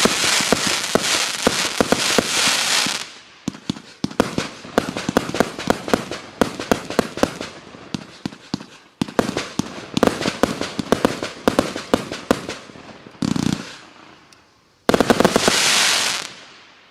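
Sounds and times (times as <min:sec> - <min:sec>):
fireworks firing with crackling: 0:00.0 - 0:16.9.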